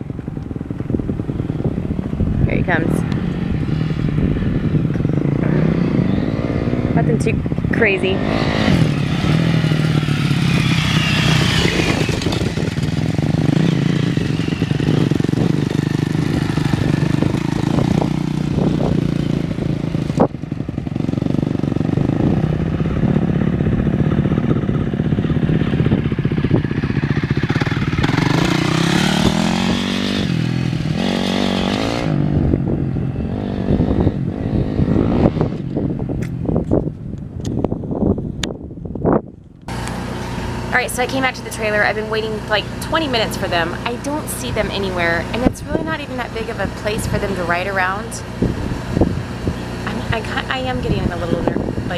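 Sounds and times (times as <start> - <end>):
dirt bike engine revving: 0.7 - 36.6, 39.0 - 51.9.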